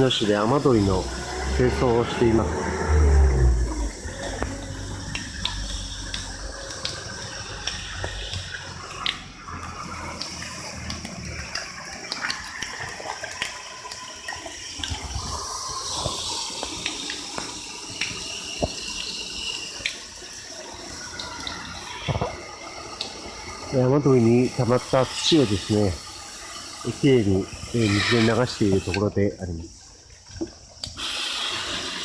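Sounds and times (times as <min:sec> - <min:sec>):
water rushing through gutter: 0:00.0 - 0:32.0.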